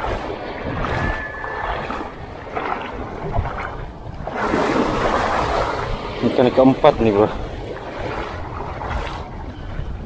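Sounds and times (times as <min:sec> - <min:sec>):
breaking surf rushing: 0:00.0 - 0:10.0
small waves splashing: 0:00.0 - 0:10.0.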